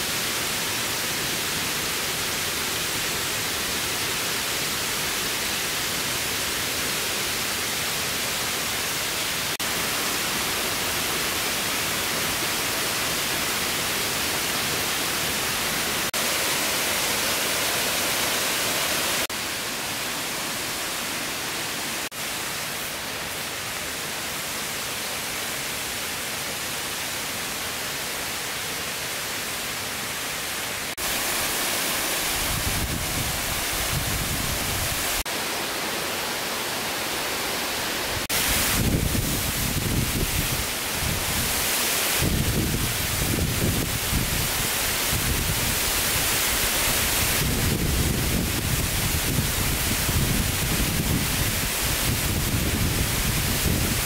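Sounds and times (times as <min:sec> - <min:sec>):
rush of falling water: 0:00.0 - 0:54.0.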